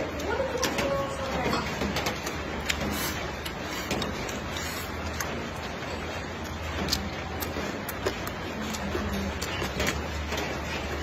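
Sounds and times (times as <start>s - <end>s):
chewing: 2.0s - 11.0s.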